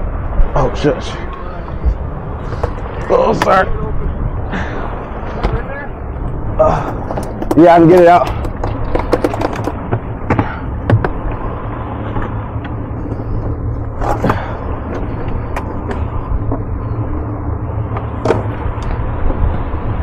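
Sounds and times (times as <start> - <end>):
outboard engines rumbling: 0.0 - 20.0
sea water wash: 0.0 - 20.0.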